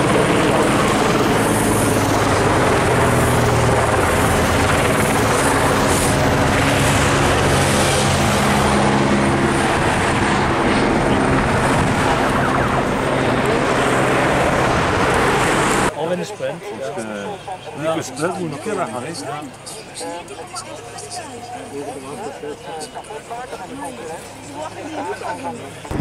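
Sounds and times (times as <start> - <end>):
helicopter rotor chopping: 0.0 - 24.6, 25.2 - 26.0
race vehicle engines: 0.0 - 26.0.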